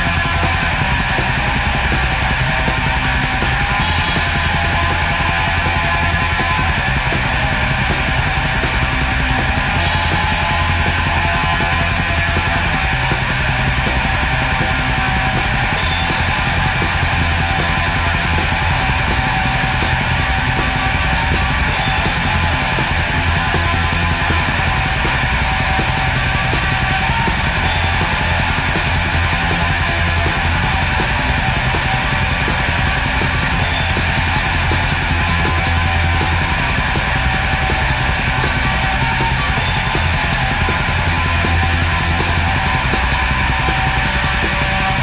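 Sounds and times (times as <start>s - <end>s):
heavy metal music: 0.0s - 45.0s.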